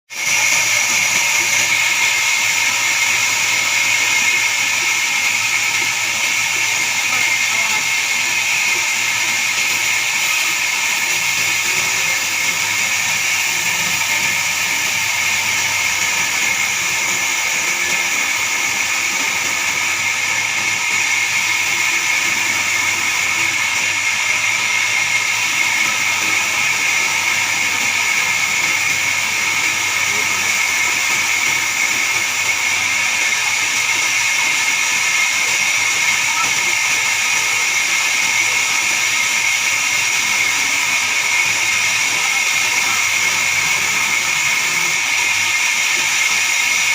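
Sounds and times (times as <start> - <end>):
band saw cutting log: 0.1 - 46.9.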